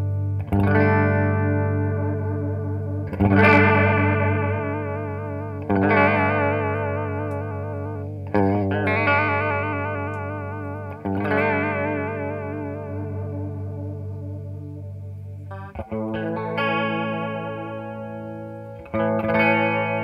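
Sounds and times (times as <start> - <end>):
electric guitar chords with chorus: 0.0 - 20.0.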